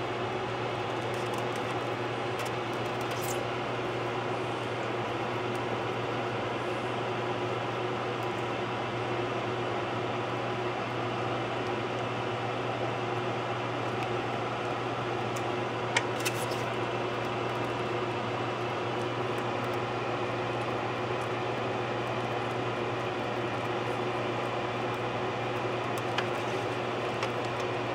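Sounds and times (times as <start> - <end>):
mechanical hum: 0.0 - 27.9.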